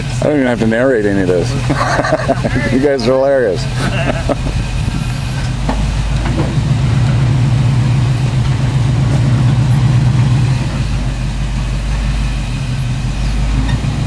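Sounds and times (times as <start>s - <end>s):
truck engine running under load: 0.0s - 14.0s.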